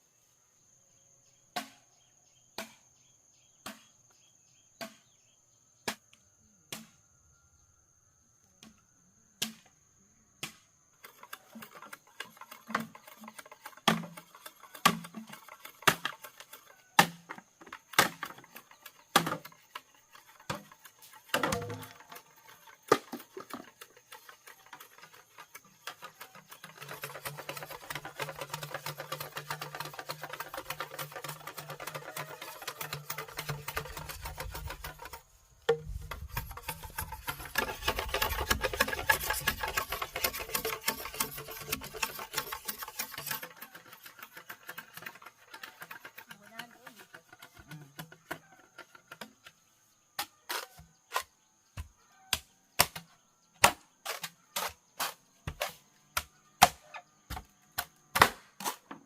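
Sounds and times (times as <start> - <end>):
blade chopping bamboo: 1.6 - 1.8, 9.4 - 9.7, 10.4 - 48.5, 50.2 - 59.0
bamboo crackling and scraping: 11.0 - 59.0.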